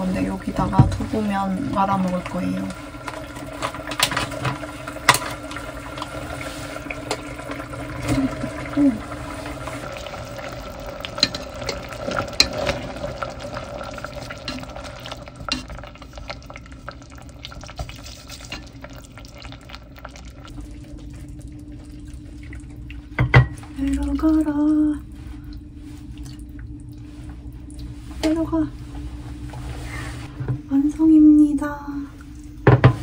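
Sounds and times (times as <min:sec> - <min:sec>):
wet stirring in a pot: 0:00.0 - 0:30.4.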